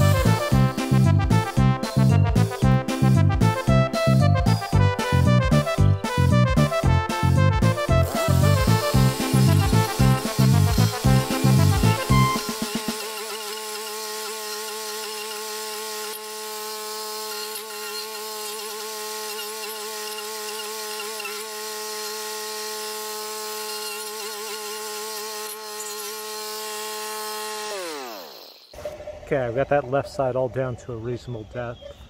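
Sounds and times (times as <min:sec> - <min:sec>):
cutting wheel grinding stump: 0:00.0 - 0:05.4, 0:06.1 - 0:29.8
small gas engine buzzing whine: 0:00.0 - 0:29.3.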